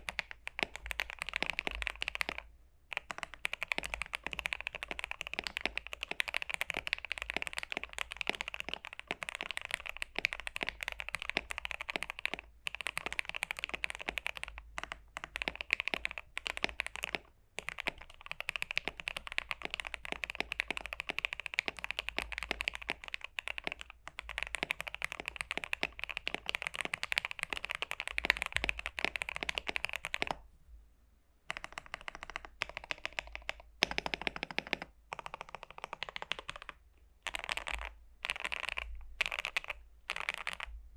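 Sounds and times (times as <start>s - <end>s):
fast typing on mechanical keyboard: 0.0s - 30.4s, 31.5s - 40.7s.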